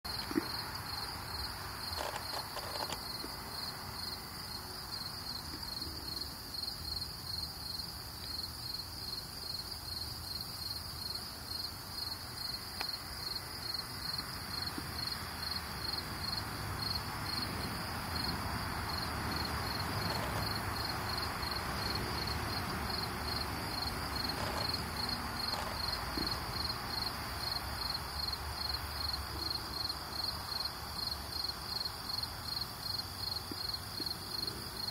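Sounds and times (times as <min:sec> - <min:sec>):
crickets chirping: 0:00.1 - 0:34.9
low background noise: 0:00.1 - 0:34.9.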